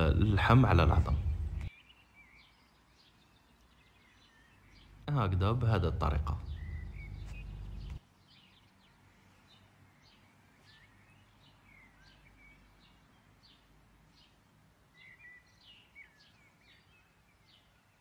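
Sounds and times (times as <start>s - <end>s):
faint birds chirping: 0.0s - 18.0s.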